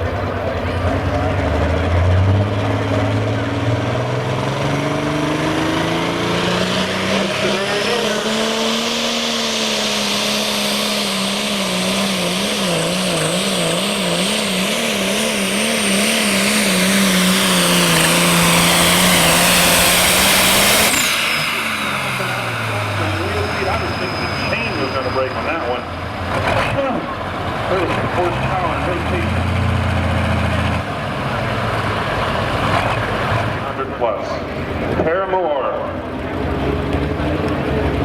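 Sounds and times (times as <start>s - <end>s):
tractor diesel engine at full power: 0.0s - 38.0s.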